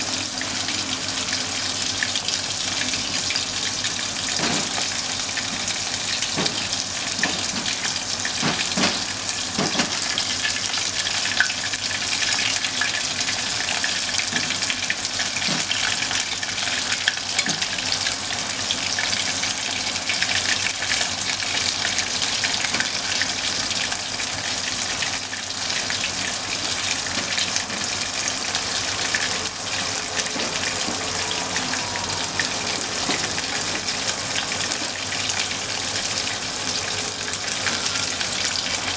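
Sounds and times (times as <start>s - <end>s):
hot oil sizzling and crackling: 0.0s - 38.9s.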